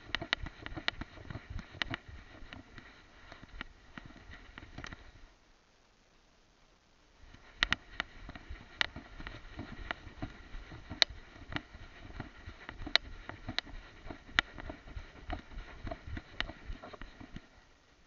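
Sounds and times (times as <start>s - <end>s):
low rustle: 0.0s - 5.5s, 7.2s - 18.0s.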